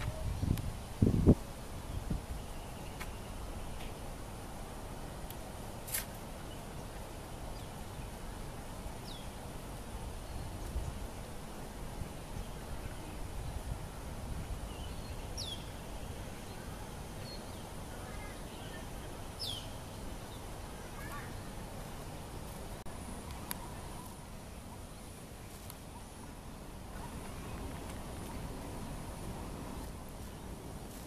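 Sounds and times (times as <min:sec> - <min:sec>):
outdoor lakeside noise: 0:00.0 - 0:31.0.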